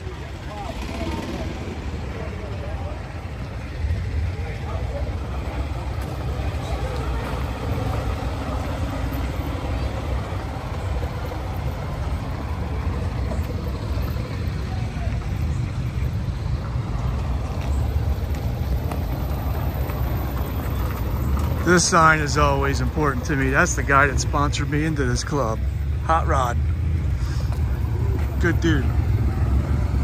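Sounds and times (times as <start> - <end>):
engines rumbling: 0.0 - 30.0
faint voices: 0.0 - 30.0.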